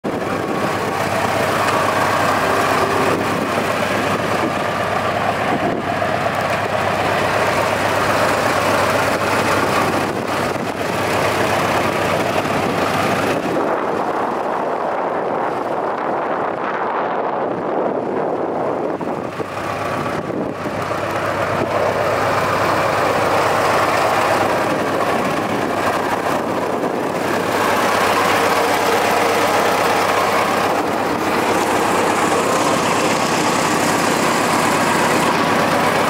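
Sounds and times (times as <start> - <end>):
tractor engine idling: 0.0 - 36.0.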